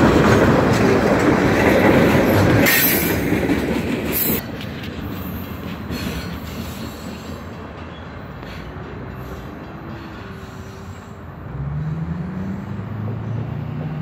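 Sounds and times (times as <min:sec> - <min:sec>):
train cars rolling over rails: 0:00.0 - 0:14.0.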